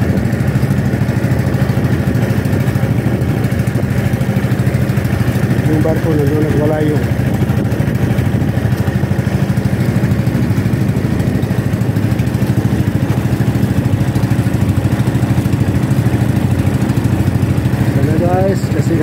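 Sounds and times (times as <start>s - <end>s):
small boat engine pulsing: 0.0s - 19.0s.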